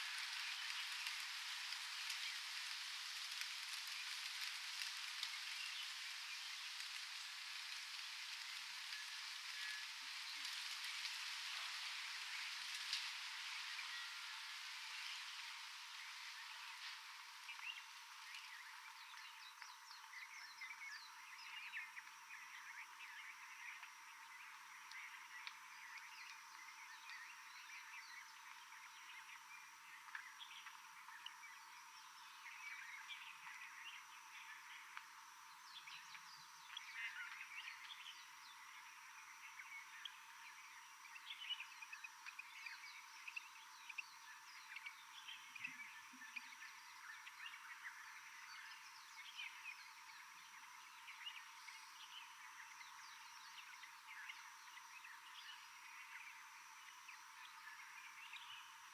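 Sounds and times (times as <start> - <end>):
chirping calls of forest wildlife: 0.0 - 58.9.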